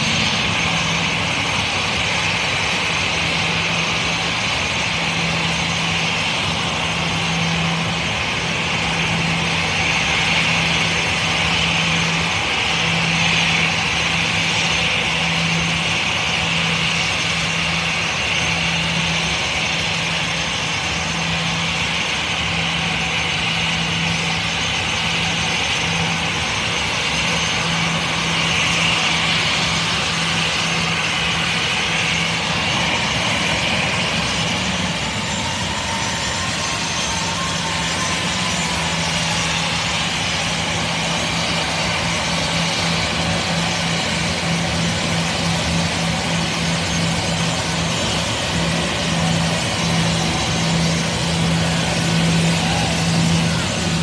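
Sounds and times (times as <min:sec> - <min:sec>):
constant low hum: 0:00.0 - 0:54.0
jet engines whining: 0:00.0 - 0:54.0.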